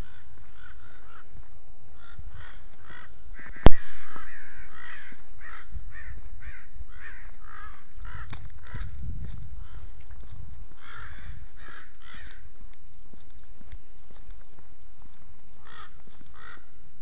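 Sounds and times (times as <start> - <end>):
birds calling: 0.0 - 16.9.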